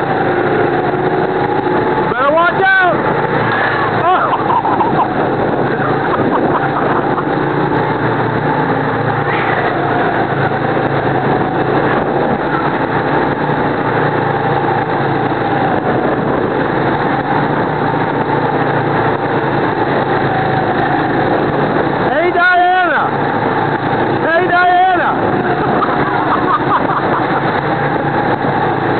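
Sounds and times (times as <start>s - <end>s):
go-kart engine droning: 0.0s - 28.9s.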